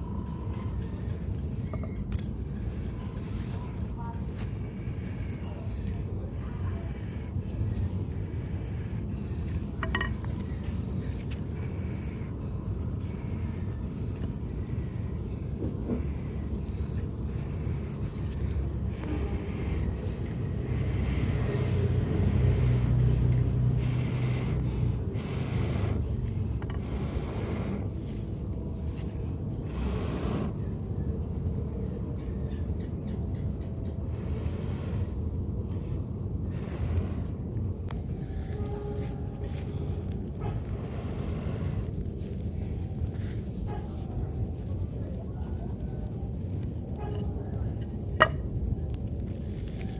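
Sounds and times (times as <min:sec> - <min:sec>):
insects trilling: 0:00.0 - 0:49.9.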